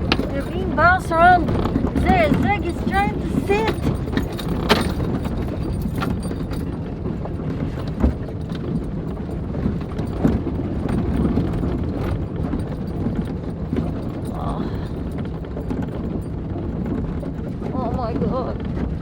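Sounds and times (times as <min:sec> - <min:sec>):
knocks and rattles of bouncing vehicle: 0:00.0 - 0:19.0
vehicle engine rumbling: 0:00.0 - 0:19.0.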